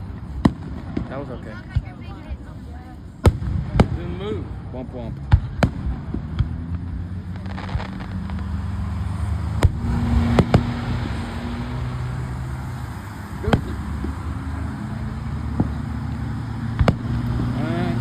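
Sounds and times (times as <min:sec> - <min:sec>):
firework bangs: 0:00.0 - 0:18.0
vehicle engine humming: 0:00.0 - 0:18.0.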